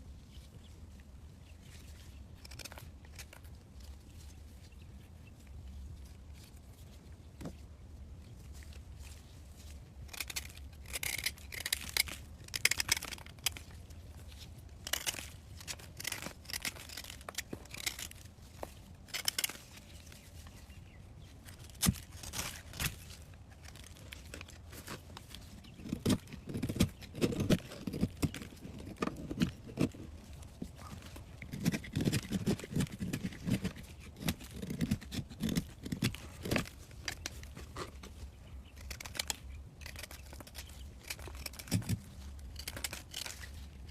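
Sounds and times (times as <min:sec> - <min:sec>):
brittle material crackling and tearing: 0:01.7 - 0:04.4, 0:08.5 - 0:43.9.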